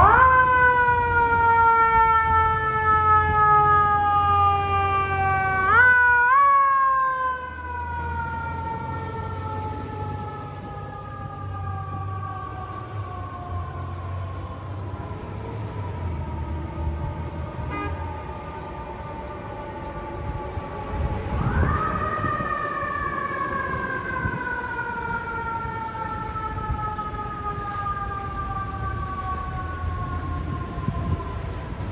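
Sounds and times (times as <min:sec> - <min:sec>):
fire truck siren winding: 0:00.0 - 0:13.9, 0:17.7 - 0:31.9
truck engine rumble: 0:00.0 - 0:31.9.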